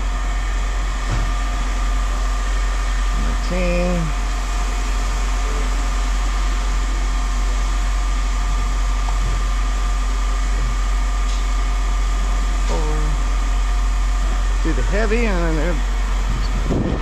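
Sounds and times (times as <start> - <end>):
low drone of running machinery: 0.0 - 17.0.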